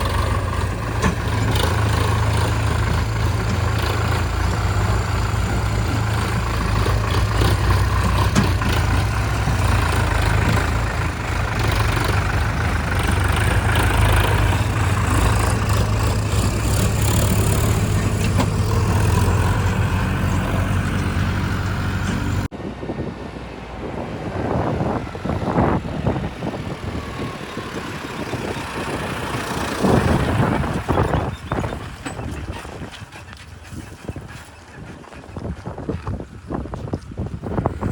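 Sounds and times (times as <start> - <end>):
diesel engine running: 0.0 - 37.9
wind buffeting microphone: 0.0 - 37.9.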